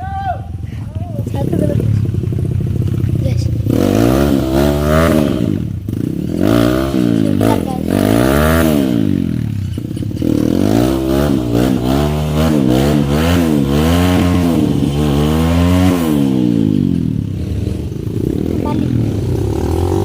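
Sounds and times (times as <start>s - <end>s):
motorcycle engine revving: 0.3s - 20.0s.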